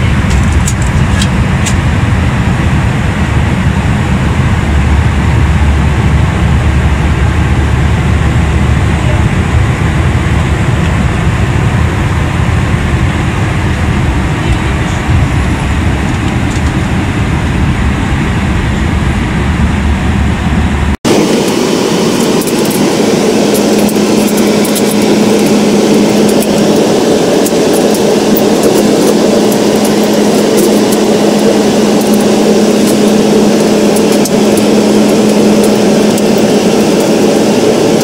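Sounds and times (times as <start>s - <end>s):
deep rumble: 0.0s - 38.0s.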